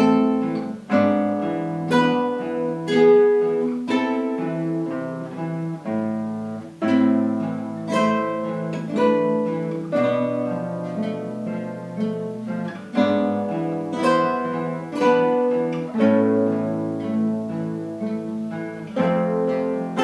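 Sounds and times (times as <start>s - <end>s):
acoustic guitar ensemble playing: 0.0s - 20.0s.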